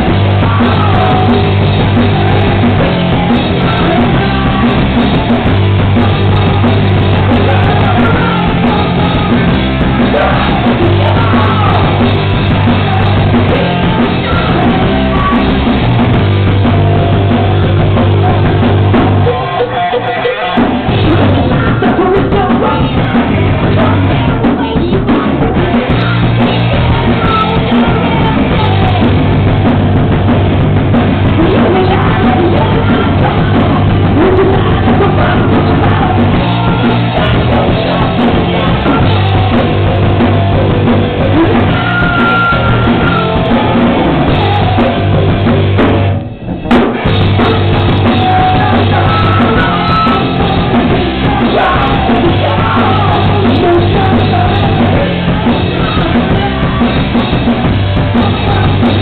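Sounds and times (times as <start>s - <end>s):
person singing: 0.0s - 45.9s, 46.7s - 59.0s
live rock band playing: 0.0s - 59.0s.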